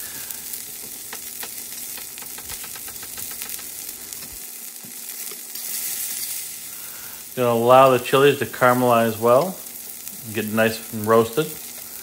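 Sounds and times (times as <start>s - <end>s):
peppers sizzling in hot oil: 0.0s - 12.0s.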